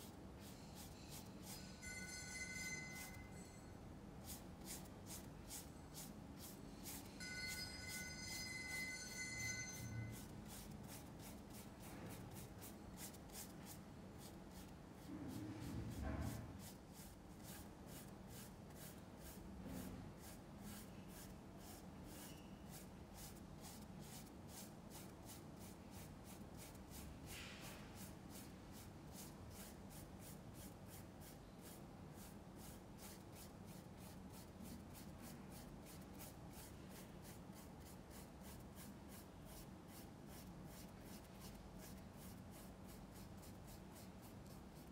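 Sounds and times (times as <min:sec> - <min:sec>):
paintbrush scrubbing on canvas: 0:00.0 - 0:01.7, 0:04.2 - 0:08.1, 0:09.8 - 0:44.9.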